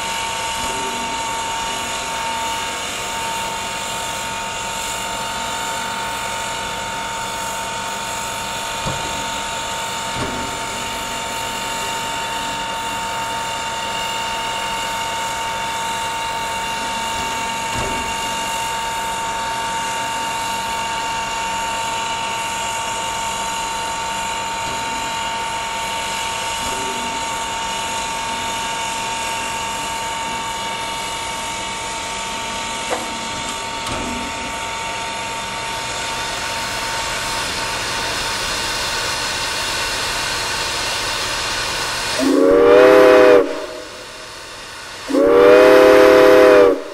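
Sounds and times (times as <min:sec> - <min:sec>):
steam locomotive machinery whine: 0:00.0 - 0:46.9.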